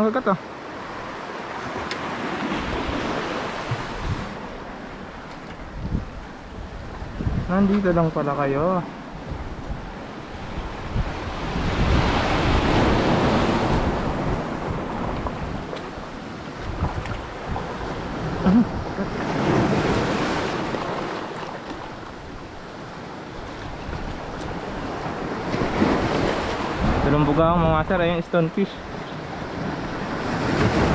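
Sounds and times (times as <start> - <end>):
surf washing over rocky shore: 0.0 - 30.9
wind buffeting microphone: 1.5 - 30.9.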